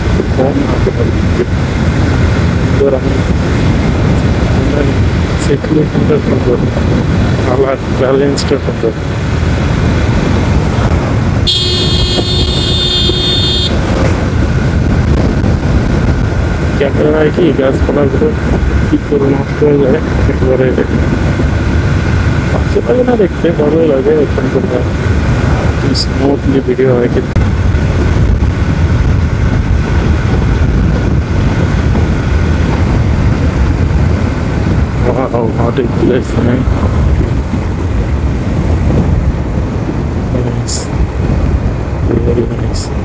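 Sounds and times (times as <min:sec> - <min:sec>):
motorbike engine and road noise: 0:00.0 - 0:43.0
wind rushing over microphone: 0:00.0 - 0:43.0.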